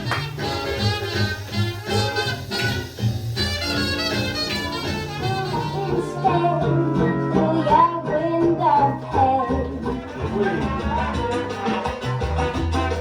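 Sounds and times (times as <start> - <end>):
swing jazz music: 0.0 - 13.0.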